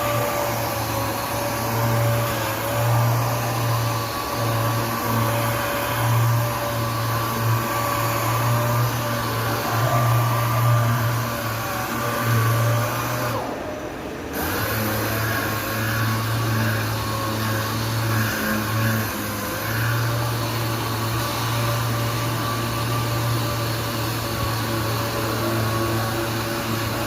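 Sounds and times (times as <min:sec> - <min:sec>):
power sander running: 0:00.0 - 0:27.0.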